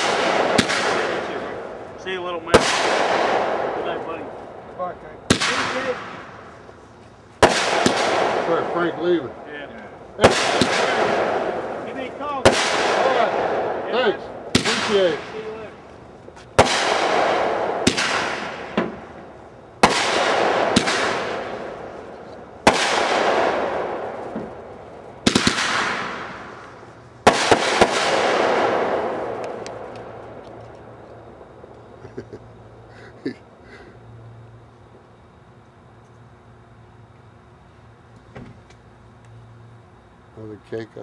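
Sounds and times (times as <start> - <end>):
fireworks booming: 0.0 - 34.0.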